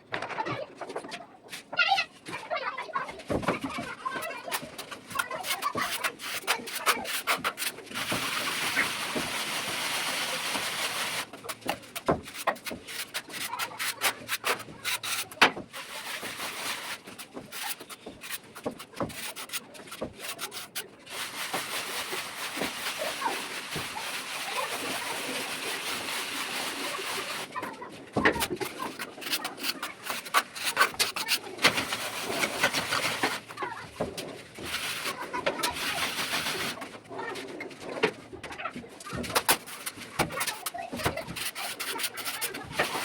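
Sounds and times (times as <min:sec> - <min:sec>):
plastering tool scraping plaster: 0:00.8 - 0:43.0.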